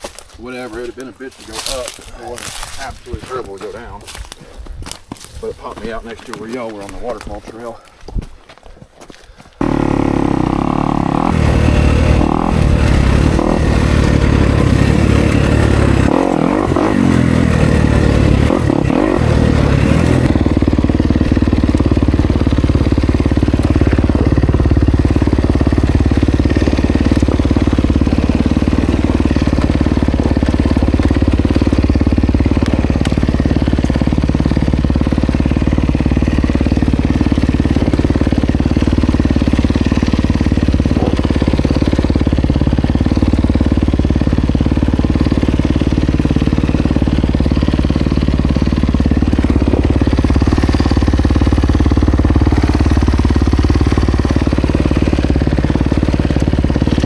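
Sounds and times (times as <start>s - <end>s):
dirt bike engine revving: 9.6s - 57.0s.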